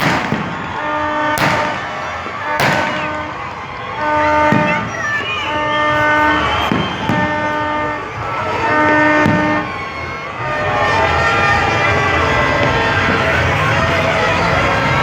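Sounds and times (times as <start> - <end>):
horn blasts: 0.0 - 15.0
noisy crowd: 0.0 - 15.0.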